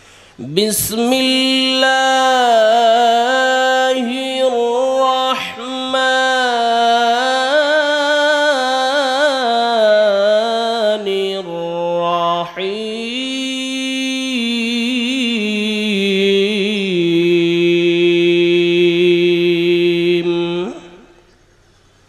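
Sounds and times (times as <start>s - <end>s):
man chanting melodically: 0.4s - 21.3s.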